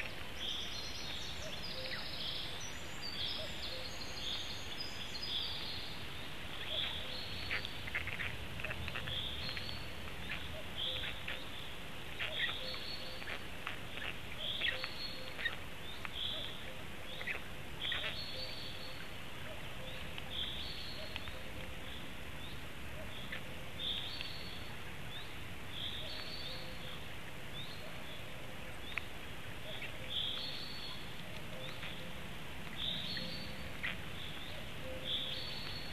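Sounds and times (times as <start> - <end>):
small bird singing: 0.0 - 35.9.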